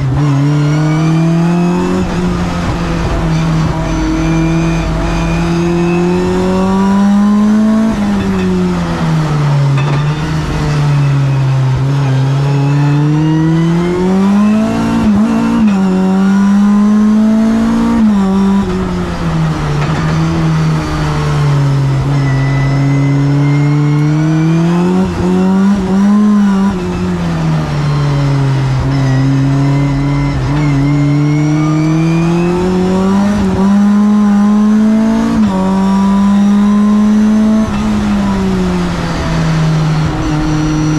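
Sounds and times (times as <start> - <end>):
race car engine accelerating: 0.0 - 40.9.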